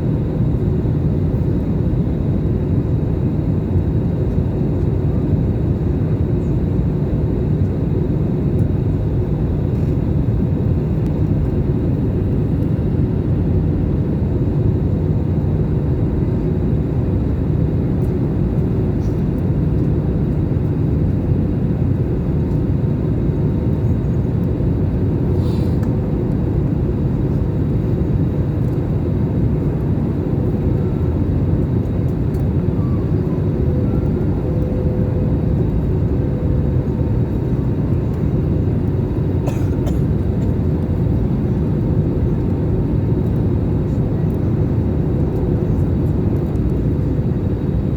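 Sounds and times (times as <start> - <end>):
faint constant hum: 0.0 - 47.9.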